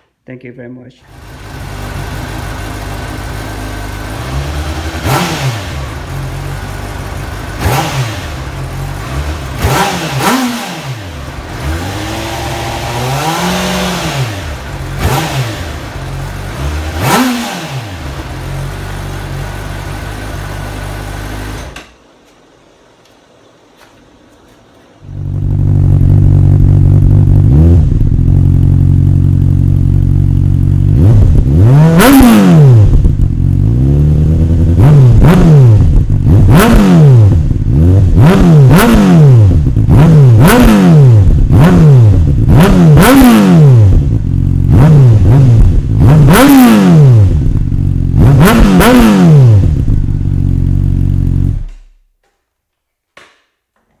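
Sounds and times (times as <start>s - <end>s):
motorcycle engine revving: 1.1s - 21.8s, 25.0s - 51.9s.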